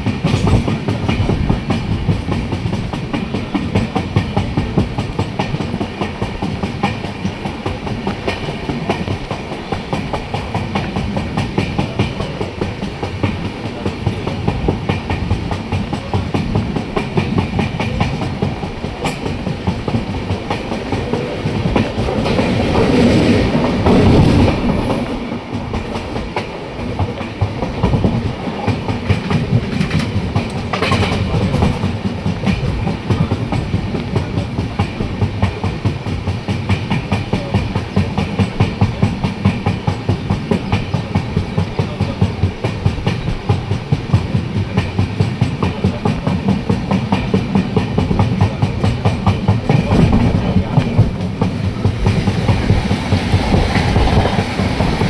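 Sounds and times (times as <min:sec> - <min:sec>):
low train rumble: 0:00.0 - 0:55.0
train wheels clattering over joints: 0:00.0 - 0:55.0.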